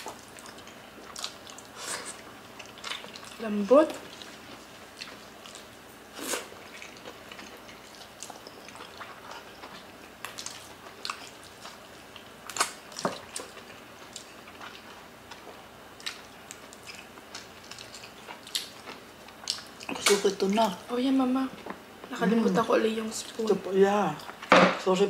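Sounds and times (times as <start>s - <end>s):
chewing and mouth smacks: 0.0s - 20.2s.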